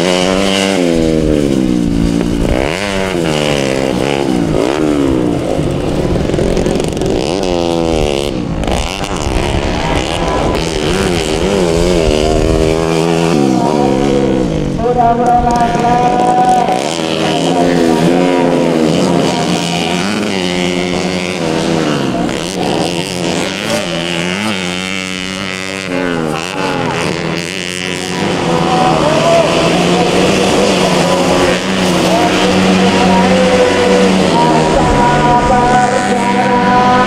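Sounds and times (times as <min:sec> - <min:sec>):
motorcycle engines racing: 0:00.0 - 0:37.0.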